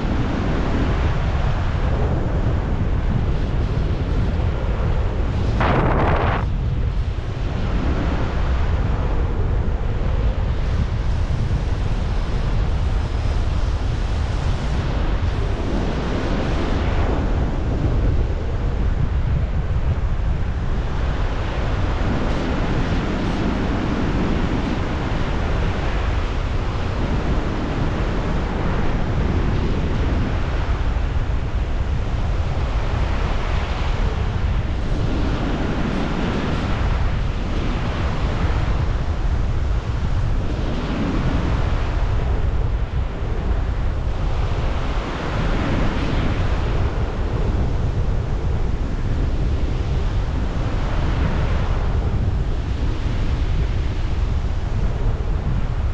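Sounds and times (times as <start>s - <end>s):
strong wind on microphone: 0.0s - 55.9s.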